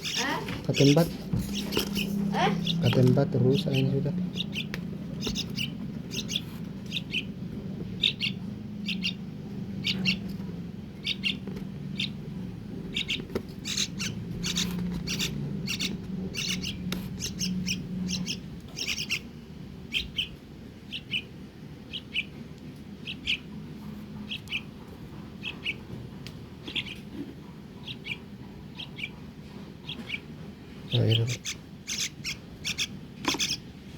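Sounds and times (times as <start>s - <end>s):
low steady hum: 0.0s - 33.9s
young bird chirping: 0.0s - 33.9s.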